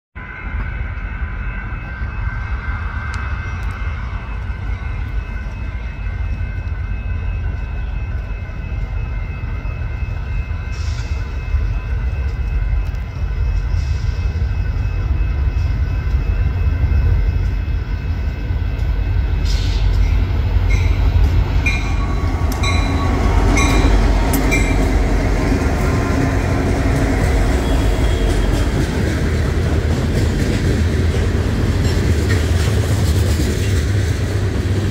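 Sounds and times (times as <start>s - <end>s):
diesel train low rumble: 0.1s - 34.9s
train wheels clicking: 3.0s - 34.9s.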